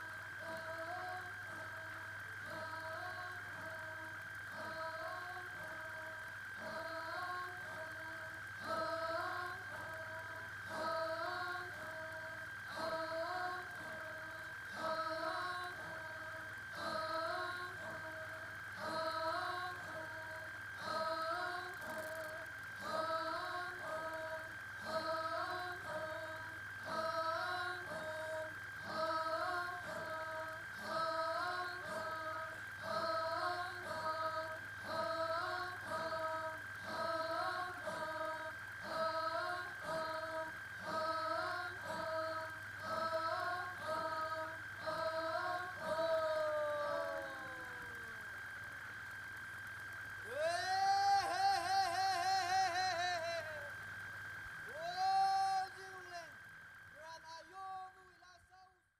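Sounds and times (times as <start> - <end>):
steady high tone: 0.0 - 58.1
low hum: 0.0 - 58.6.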